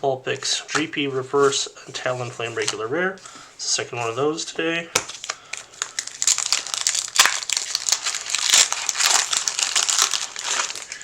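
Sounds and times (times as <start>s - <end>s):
foil wrapper crinkling: 0.4s - 11.0s.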